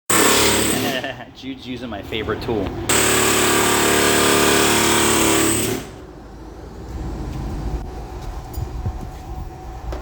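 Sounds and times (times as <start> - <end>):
low shop rumble: 0.1 - 10.0.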